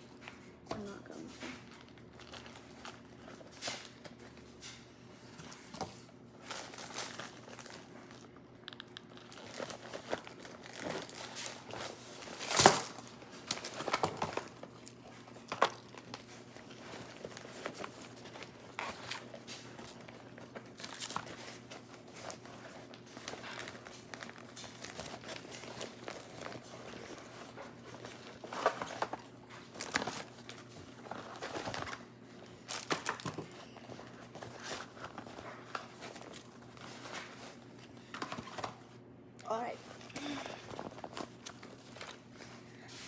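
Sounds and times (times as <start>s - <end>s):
plastic packaging crinkling: 1.2s - 4.1s, 6.4s - 38.8s.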